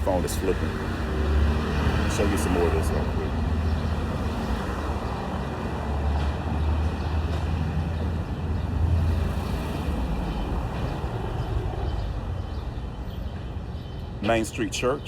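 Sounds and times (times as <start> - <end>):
motor vehicles rumbling: 0.0 - 15.0.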